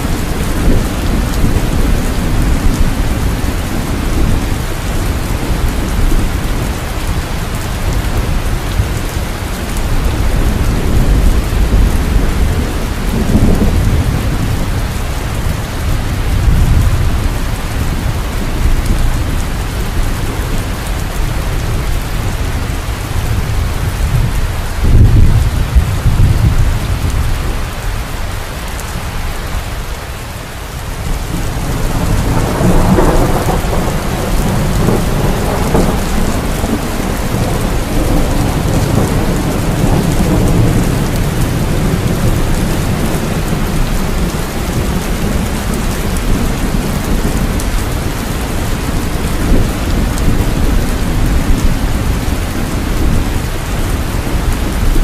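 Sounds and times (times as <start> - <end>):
rolling thunder: 0.0 - 27.8, 31.0 - 55.0
heavy rain: 0.0 - 55.0.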